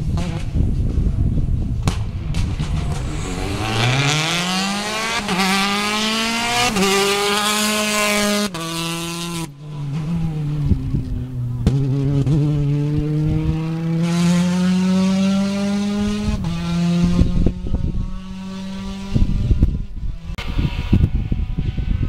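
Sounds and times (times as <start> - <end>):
rally car engine passing: 2.0 - 22.0.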